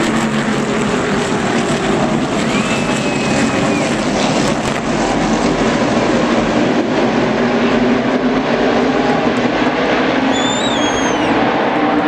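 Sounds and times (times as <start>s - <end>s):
race cars passing at speed: 0.0s - 12.0s.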